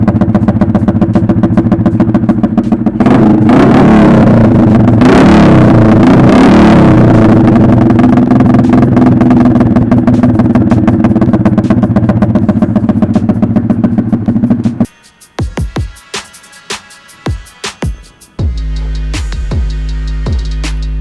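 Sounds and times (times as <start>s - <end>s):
motorcycle engine idling and revving: 0.0s - 16.0s, 17.2s - 21.0s.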